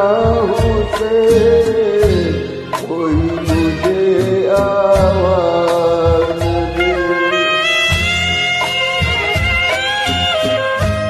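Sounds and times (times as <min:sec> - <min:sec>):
bass striking: 0:00.0 - 0:11.0
instrumental karaoke backing track: 0:00.0 - 0:11.0.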